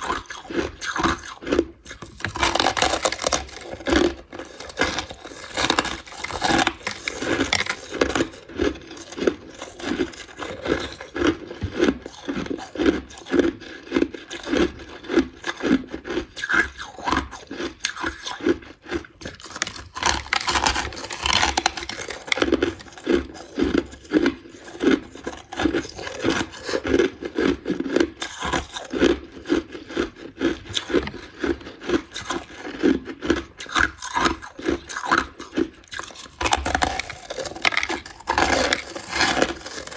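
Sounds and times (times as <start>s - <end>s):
person chewing crushed ice: 0.0s - 39.9s.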